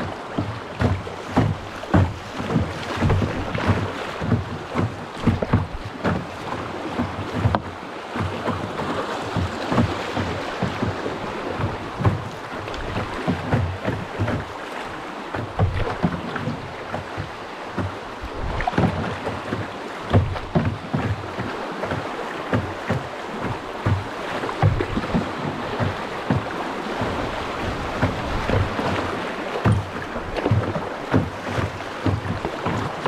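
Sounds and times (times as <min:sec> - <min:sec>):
rushing water: 0:00.0 - 0:33.0
water splashing around boat: 0:00.0 - 0:33.0.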